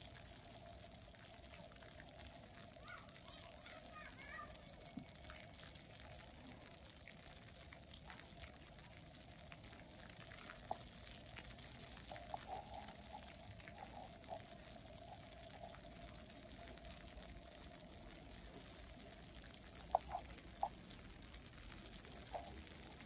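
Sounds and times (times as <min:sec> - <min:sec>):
sharp water drips: 0:00.0 - 0:23.0
water trickling and bubbling: 0:00.0 - 0:23.0.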